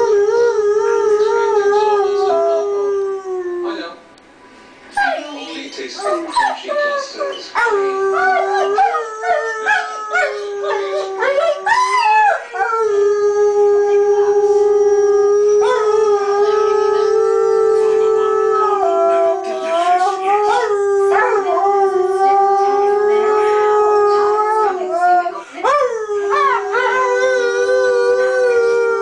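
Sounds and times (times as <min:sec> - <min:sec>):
wolf howling: 0:05.0 - 0:25.0, 0:25.6 - 0:29.0.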